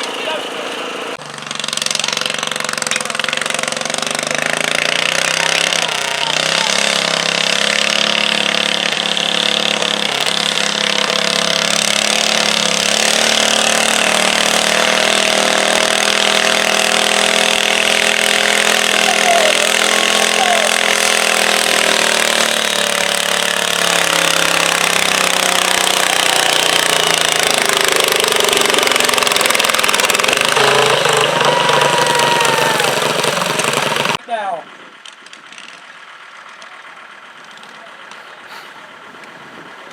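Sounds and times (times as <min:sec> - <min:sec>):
garden tractor engine under load: 0:00.0 - 0:39.9.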